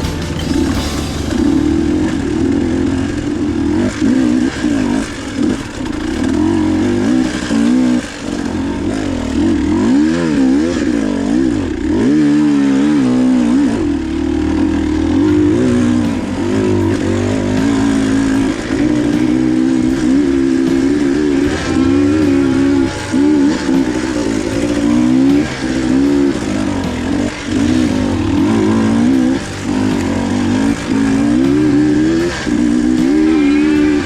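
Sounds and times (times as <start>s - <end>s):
two-stroke dirt bike engine revving: 0.0s - 34.0s.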